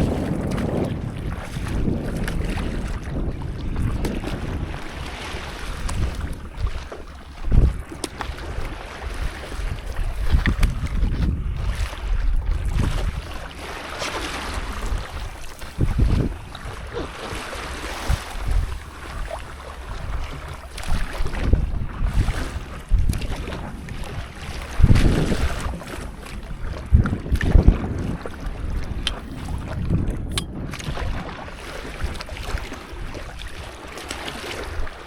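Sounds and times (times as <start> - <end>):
water splashing and sloshing: 0.0 - 35.0
wind buffeting microphone: 0.0 - 35.0.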